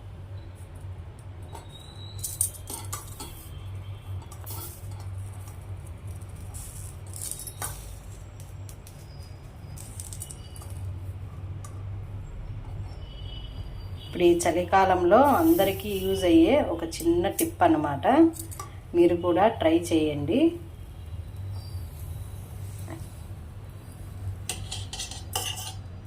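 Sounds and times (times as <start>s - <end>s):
leaf crackling on a stove: 0.0s - 26.0s.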